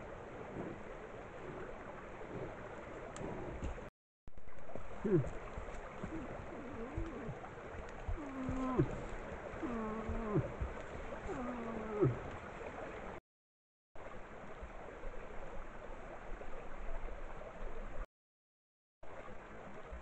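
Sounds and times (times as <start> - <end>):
stream running water: 0.0 - 13.2, 14.0 - 18.1, 19.0 - 20.0.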